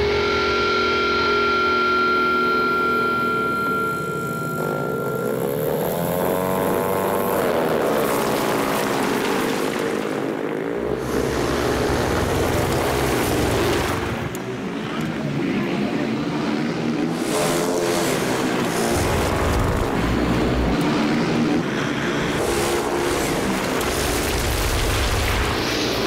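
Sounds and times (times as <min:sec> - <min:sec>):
motorcycle engines racing: 0:02.2 - 0:26.0.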